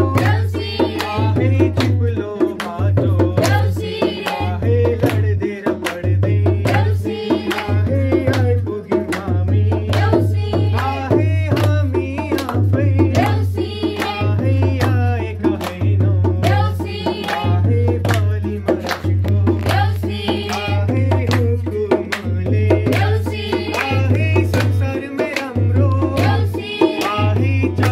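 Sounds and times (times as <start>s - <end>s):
group singing folk song: 0.0s - 27.9s
hand drum: 0.0s - 27.9s
hand clapping: 0.2s - 27.9s.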